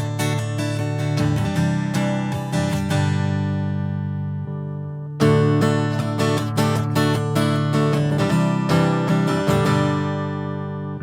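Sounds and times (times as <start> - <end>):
guitar chord strummed: 0.0 - 11.0.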